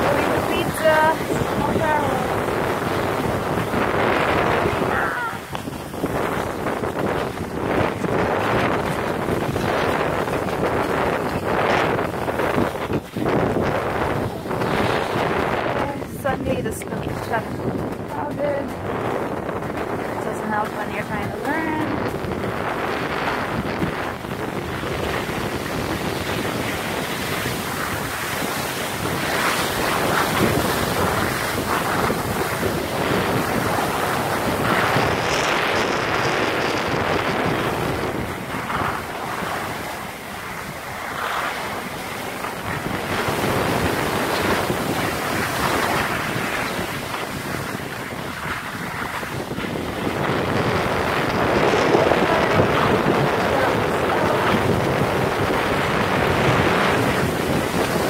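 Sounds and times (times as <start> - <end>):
skis sliding on snow: 0.0 - 58.0
wind buffeting microphone: 0.0 - 58.0.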